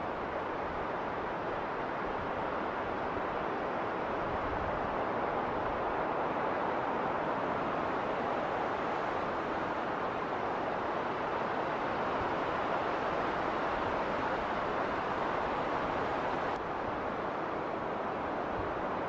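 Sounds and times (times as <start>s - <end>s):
wind rushing in a snowstorm: 0.0s - 19.0s.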